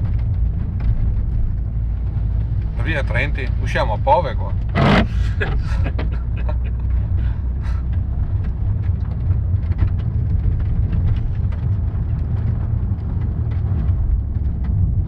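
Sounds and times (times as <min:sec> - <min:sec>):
car engine and tyre drone: 0:00.0 - 0:15.0.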